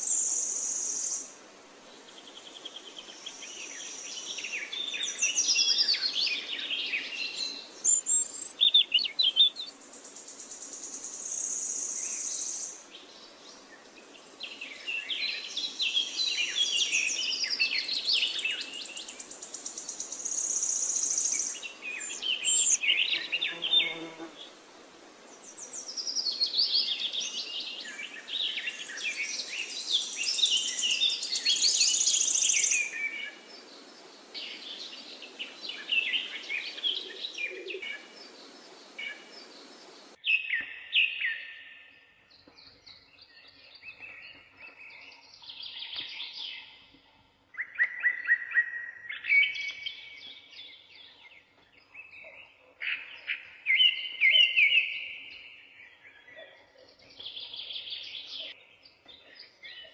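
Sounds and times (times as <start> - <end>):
birds chirping and trilling: 2.0 - 24.6, 25.3 - 59.9.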